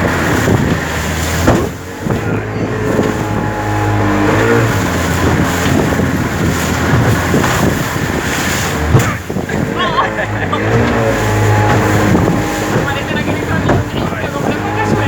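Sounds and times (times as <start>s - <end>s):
small boat motor running: 0.0s - 15.0s.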